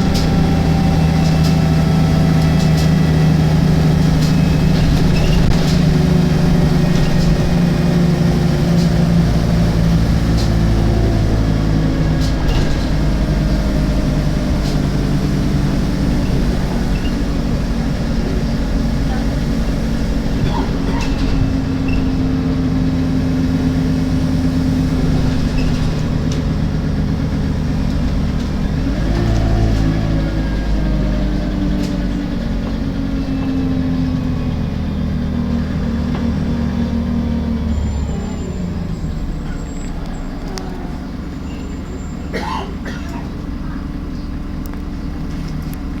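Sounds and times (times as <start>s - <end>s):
diesel bus engine: 0.0s - 46.0s.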